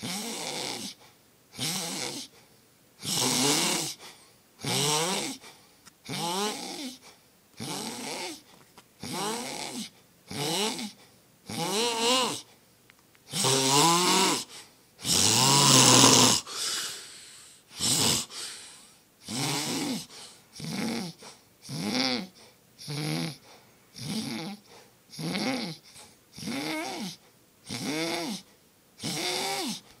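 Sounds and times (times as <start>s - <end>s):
man snoring: 0.0s - 1.0s, 1.6s - 2.3s, 3.0s - 4.0s, 4.6s - 5.4s, 6.1s - 7.0s, 7.6s - 8.4s, 9.0s - 12.5s, 13.3s - 29.8s.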